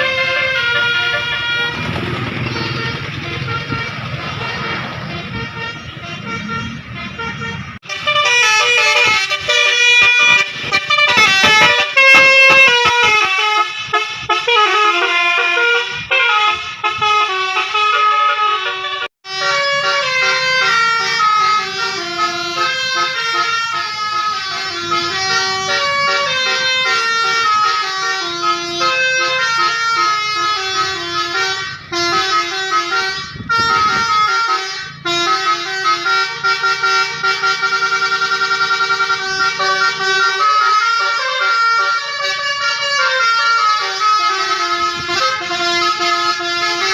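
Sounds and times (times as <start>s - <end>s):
multi-tone bus air horn melody: 0.0s - 46.9s.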